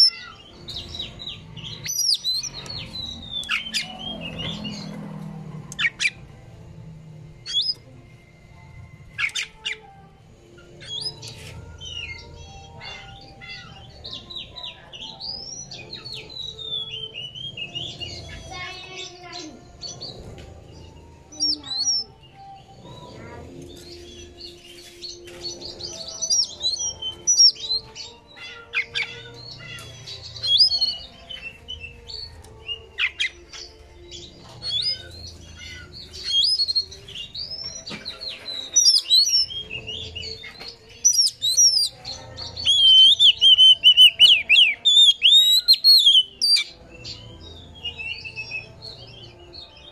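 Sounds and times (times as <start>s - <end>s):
bird singing whistled notes: 0.0s - 5.1s, 7.3s - 9.9s, 10.6s - 28.2s, 28.8s - 49.9s.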